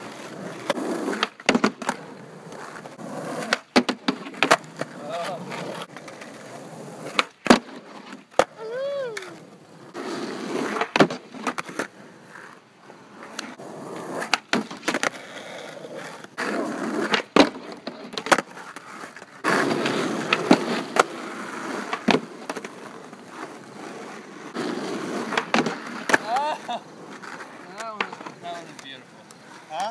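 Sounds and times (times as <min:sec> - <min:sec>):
skateboard wheels rolling on asphalt: 0:00.0 - 0:29.9.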